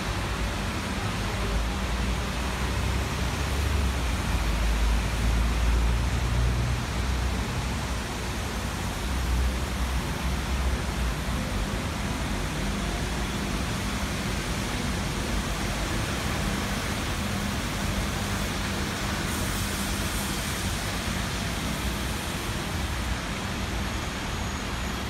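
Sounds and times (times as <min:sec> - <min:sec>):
traffic hiss: 0:00.0 - 0:25.0.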